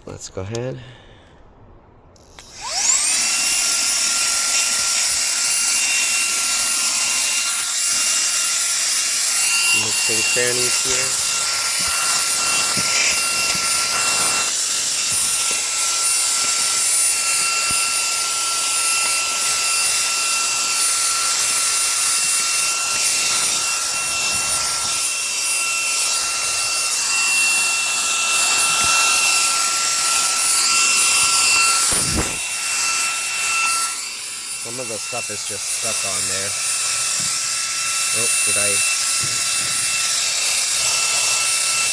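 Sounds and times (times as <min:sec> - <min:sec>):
handheld vacuum running: 0:02.2 - 0:41.9.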